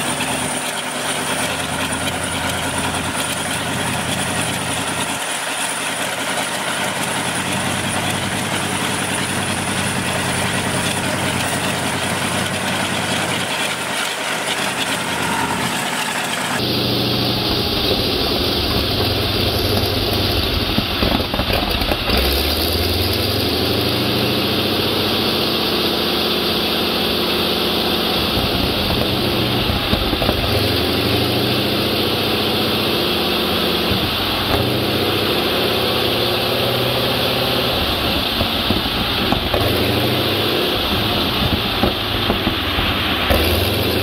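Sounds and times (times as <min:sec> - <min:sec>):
radial aircraft engine running: 0:00.0 - 0:44.0.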